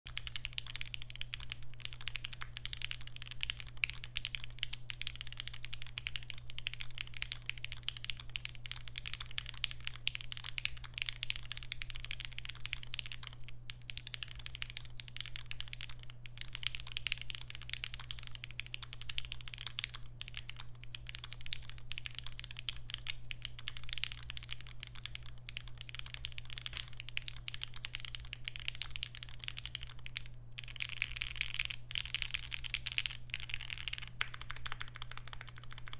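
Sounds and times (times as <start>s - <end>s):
mechanical keyboard typing: 0.1s - 35.9s.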